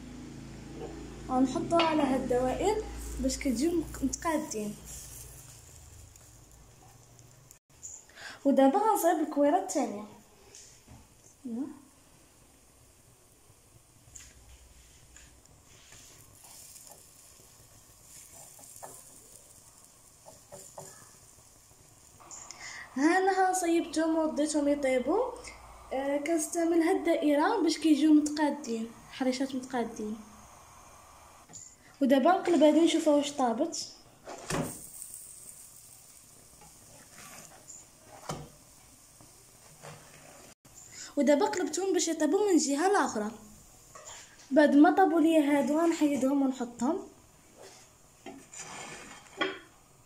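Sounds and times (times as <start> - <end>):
dough sizzling on a pan: 1.0 - 50.0.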